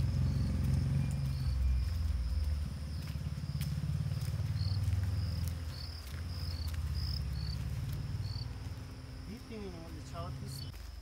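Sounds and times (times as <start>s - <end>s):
insect chirps: 0.0s - 11.0s
steady low rumble: 0.0s - 11.0s.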